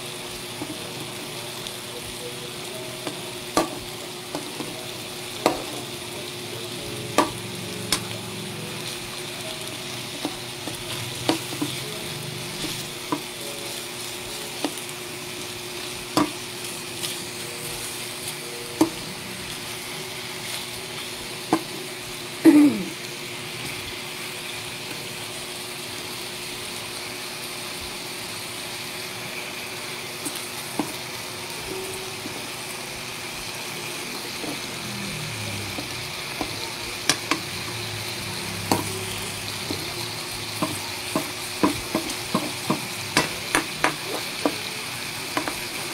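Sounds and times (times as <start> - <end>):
chicken sizzling in a wok: 0.0 - 45.9.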